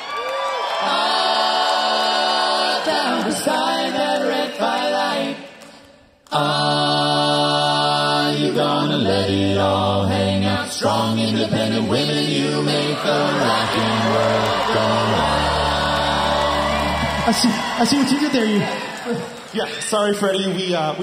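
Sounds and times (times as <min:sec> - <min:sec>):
a cappella group singing harmony: 0:00.6 - 0:17.6.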